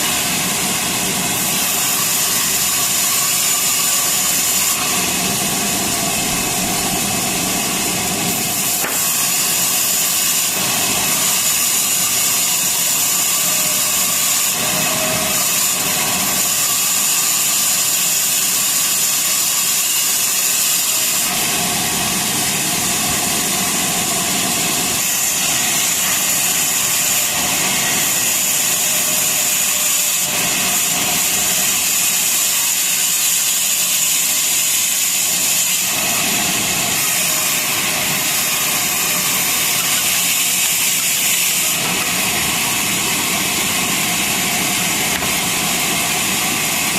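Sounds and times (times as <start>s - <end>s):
sawmill saw cutting log: 0.0s - 46.9s.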